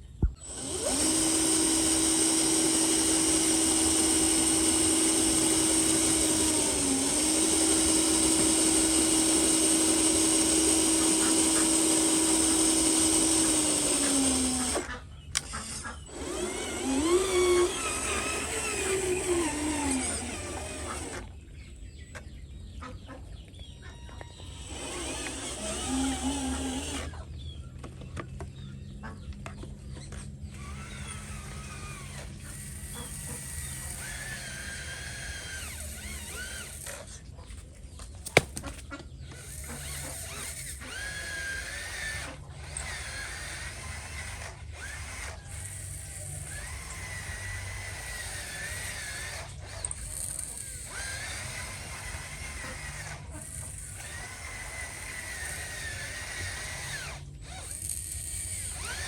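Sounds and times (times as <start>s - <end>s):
small electric motors whining: 0.0s - 22.4s, 23.4s - 59.0s.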